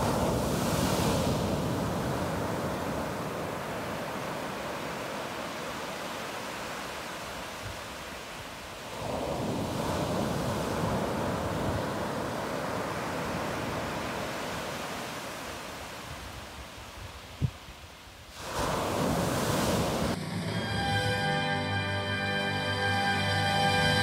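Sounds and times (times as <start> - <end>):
ocean surf washing onto shore: 0.0 - 20.2.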